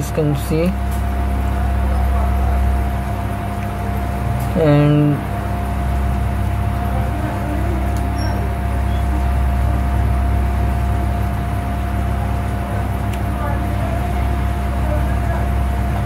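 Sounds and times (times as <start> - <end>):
faint steady whine: 0.0 - 16.0
low machine hum: 0.0 - 16.0.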